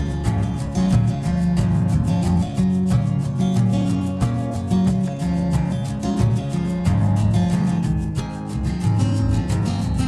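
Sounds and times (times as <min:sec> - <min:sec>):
guitar strummed quickly: 0:00.0 - 0:10.0.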